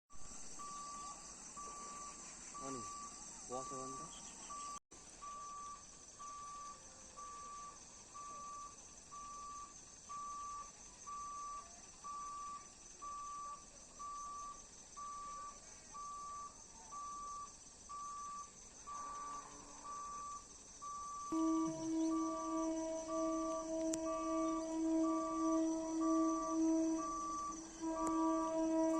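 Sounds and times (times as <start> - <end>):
level crossing warning beeps: 0.6 - 28.9.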